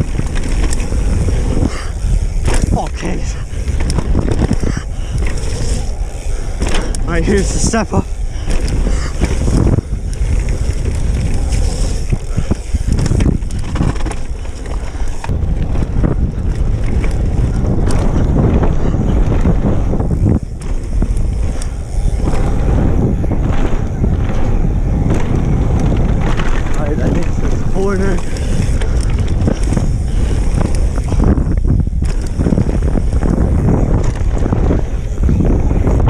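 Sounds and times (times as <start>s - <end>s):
bike knocks and rattles: 0.0s - 36.0s
tyres rumbling on gravel: 0.0s - 36.0s
wind rush on microphone: 0.0s - 36.0s.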